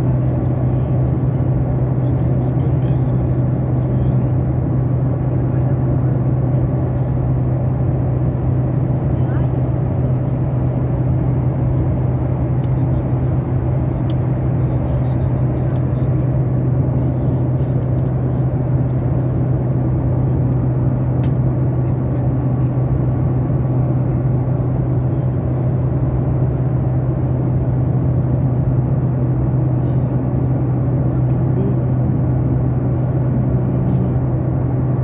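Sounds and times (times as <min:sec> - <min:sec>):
airliner cabin engine drone: 0:00.0 - 0:35.0.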